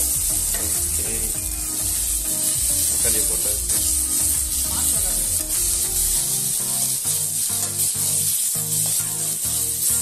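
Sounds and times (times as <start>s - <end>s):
background music with bass line: 0.0s - 10.0s
vegetables sizzling in a pan: 0.0s - 10.0s
metal spatula stirring: 0.4s - 10.0s.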